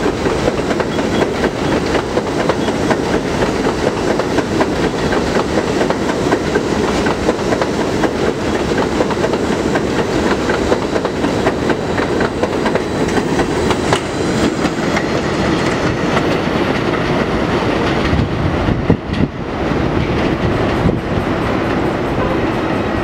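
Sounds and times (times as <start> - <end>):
train rumbling on elevated track: 0.0 - 23.0.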